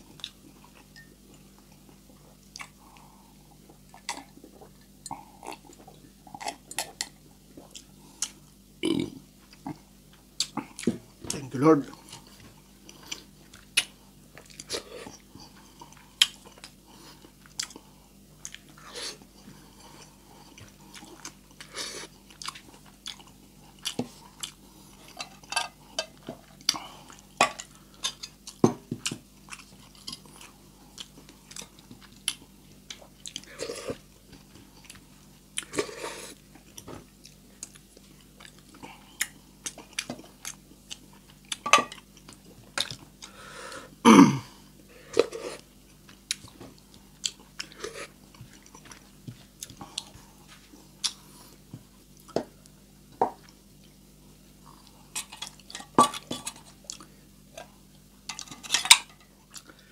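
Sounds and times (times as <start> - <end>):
person chewing food: 0.0 - 44.0, 45.0 - 59.9.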